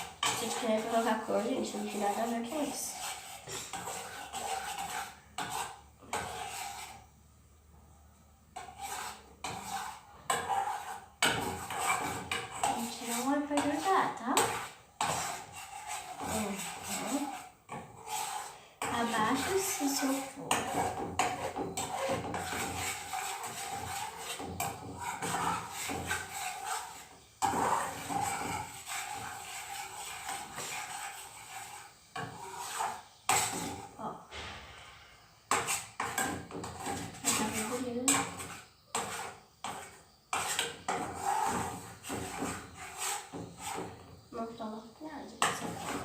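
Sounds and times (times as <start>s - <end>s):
utensil scraping a pan: 0.0s - 7.2s, 8.4s - 46.0s.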